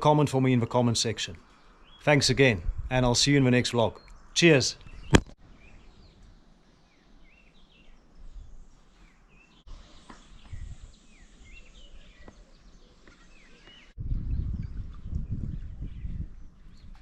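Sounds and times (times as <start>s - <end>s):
small birds chirping: 1.4s - 17.0s.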